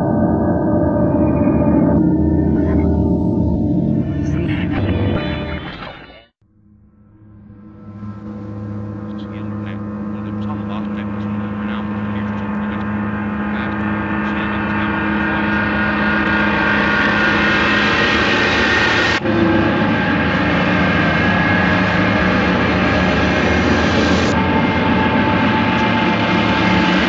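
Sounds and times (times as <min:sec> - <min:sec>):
reversed horror drone: 0:00.0 - 0:27.0.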